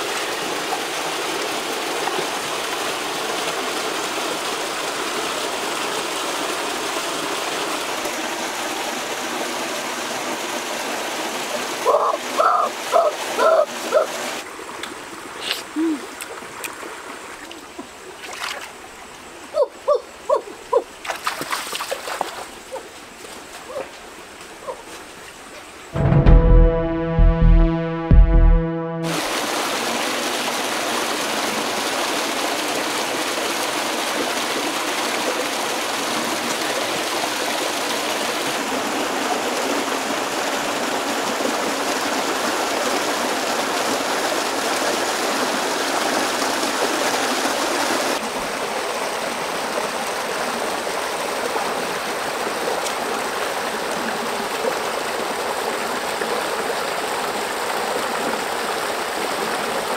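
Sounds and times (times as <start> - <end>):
stream rushing over stones: 0.0 - 19.4, 29.0 - 59.9.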